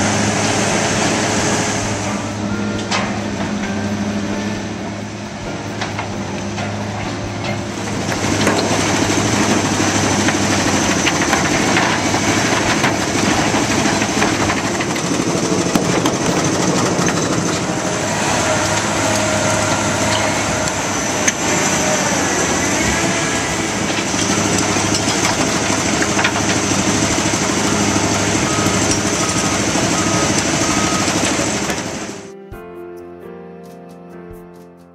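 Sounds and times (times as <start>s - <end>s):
clattering rush of material: 0.0s - 32.3s
low machine hum: 0.0s - 32.5s.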